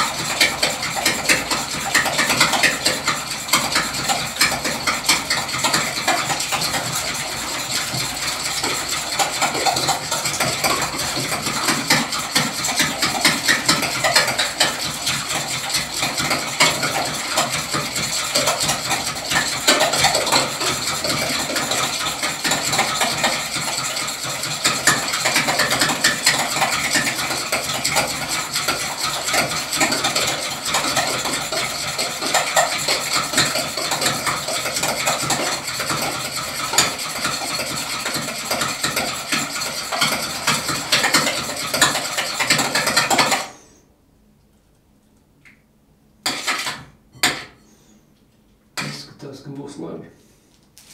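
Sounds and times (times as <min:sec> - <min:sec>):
utensil beating eggs in glass bowl: 0:00.0 - 0:43.5.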